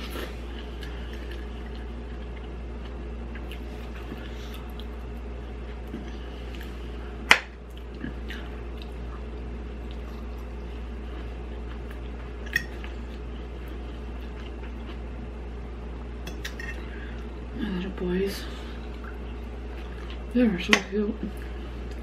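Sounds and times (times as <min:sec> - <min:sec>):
soft wet chewing: 0:00.0 - 0:15.4, 0:18.4 - 0:22.0
steady low hum: 0:00.0 - 0:22.0.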